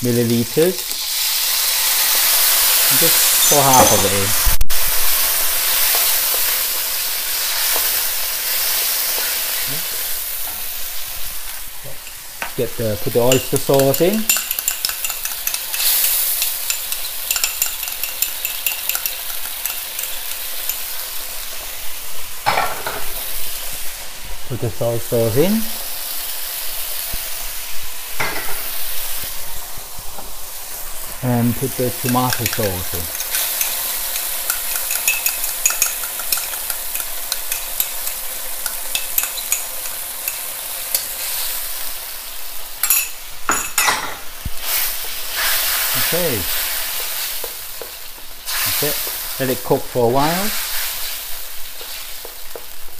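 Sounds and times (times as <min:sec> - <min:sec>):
food sizzling in a wok: 0:00.0 - 0:52.9.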